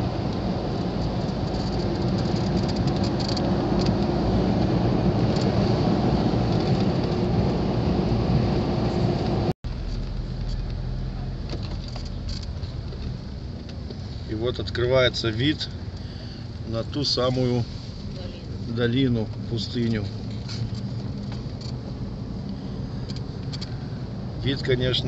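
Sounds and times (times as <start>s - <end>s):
engine and road noise inside car: 0.0s - 25.0s.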